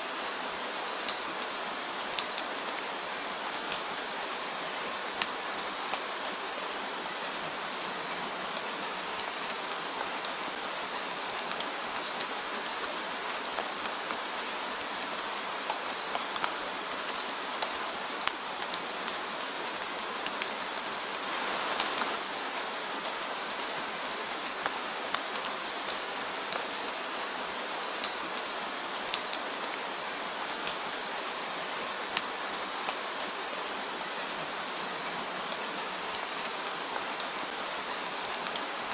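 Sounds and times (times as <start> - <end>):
rain pattering on surface: 0.0 - 38.9.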